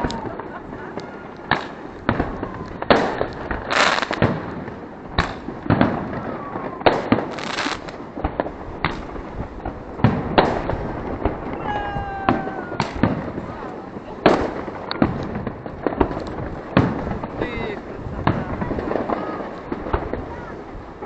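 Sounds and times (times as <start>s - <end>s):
fireworks bangs: 0.0s - 21.0s
fireworks crackling: 0.0s - 21.0s.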